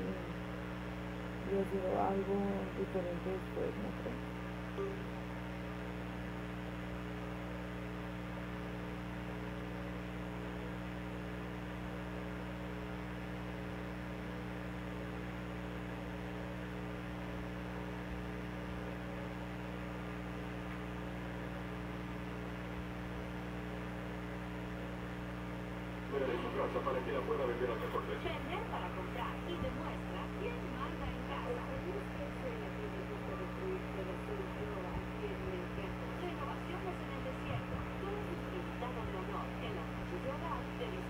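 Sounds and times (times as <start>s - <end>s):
steady electrical hum: 0.0s - 41.0s.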